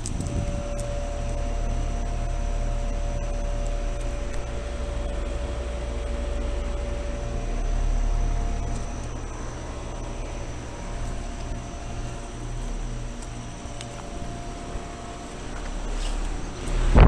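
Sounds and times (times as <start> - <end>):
compressor hum: 0.0 - 17.0
condenser fan rushing: 0.0 - 17.0
steady tones: 0.0 - 17.0.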